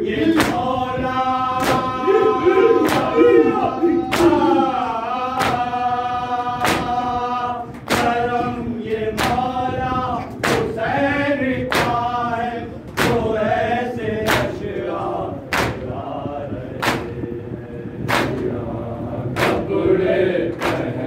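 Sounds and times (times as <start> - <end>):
men chanting in unison: 0.0 - 21.0.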